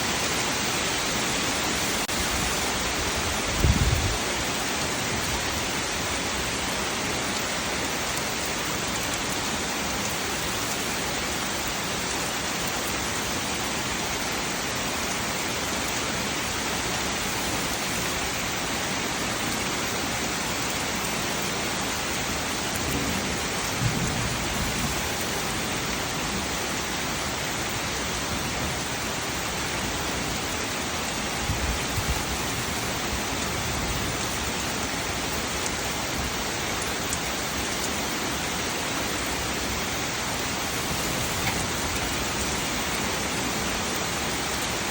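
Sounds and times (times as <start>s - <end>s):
heavy rain: 0.0s - 44.9s.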